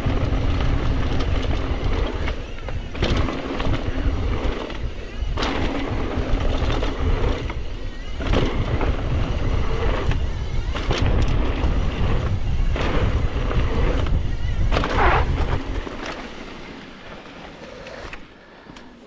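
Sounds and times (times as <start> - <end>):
wind buffeting microphone: 0.0 - 16.5
bike tyres rattling over ground: 0.0 - 18.1.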